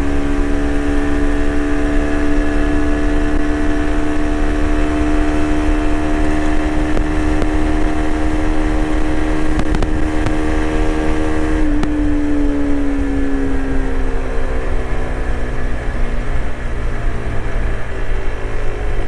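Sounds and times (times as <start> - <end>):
low rumble: 0.0 - 19.0
motorcycle engine cruising: 0.0 - 19.0.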